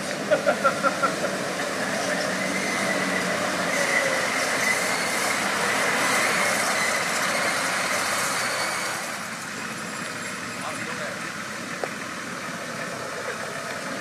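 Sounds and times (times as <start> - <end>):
off-road vehicle mechanical rush: 0.0 - 14.0.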